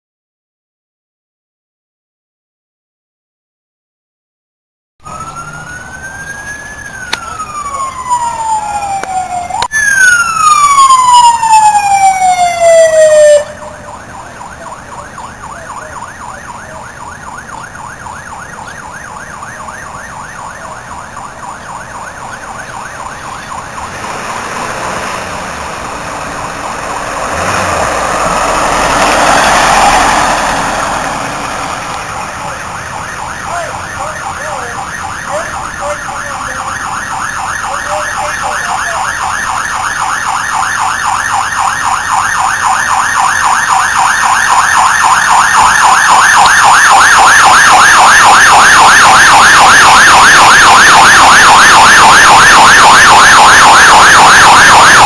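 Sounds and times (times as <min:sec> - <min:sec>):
ambulance yelp siren: 0:05.0 - 0:55.0
siren sweeping down: 0:05.0 - 0:55.0.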